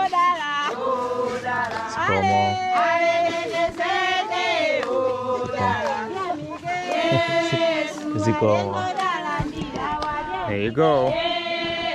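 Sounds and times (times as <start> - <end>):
group of voices singing: 0.0 - 11.9.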